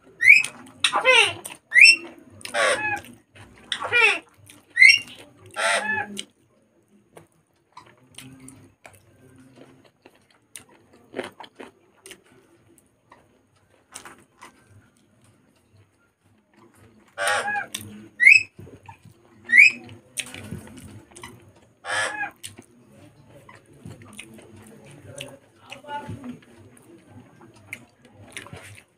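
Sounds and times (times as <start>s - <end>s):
faint eating with fingers: 0.0s - 28.9s.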